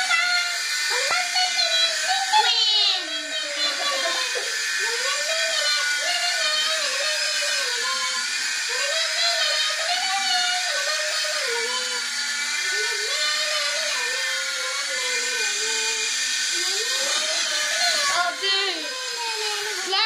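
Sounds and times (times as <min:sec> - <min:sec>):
toy helicopter motor whine: 0:00.0 - 0:20.0.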